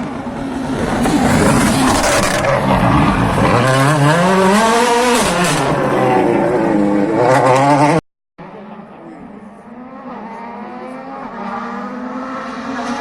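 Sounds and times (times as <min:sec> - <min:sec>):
rally car approaching: 0:00.0 - 0:13.0
rally car engine revving: 0:00.0 - 0:13.0.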